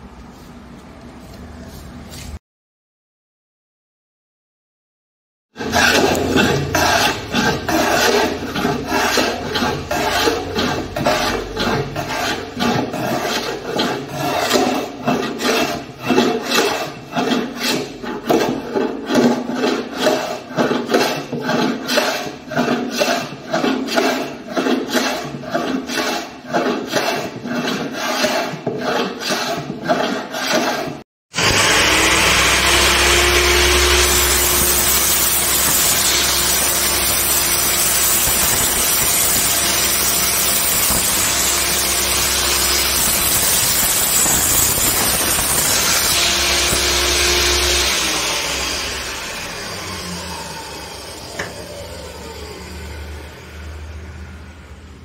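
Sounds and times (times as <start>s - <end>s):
hand plane shaving wood: 5.6s - 50.1s
table saw running: 5.6s - 55.0s.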